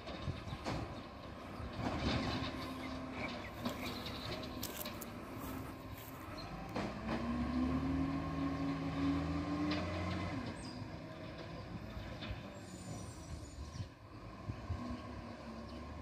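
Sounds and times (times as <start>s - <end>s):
diesel truck engine pulling away: 0.0s - 16.0s.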